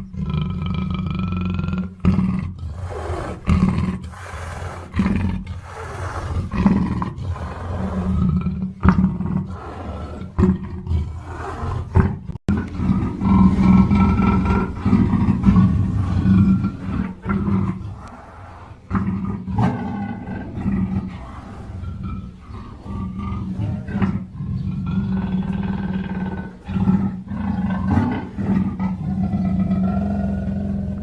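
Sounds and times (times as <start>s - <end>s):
panther roaring: 0.4s - 31.0s.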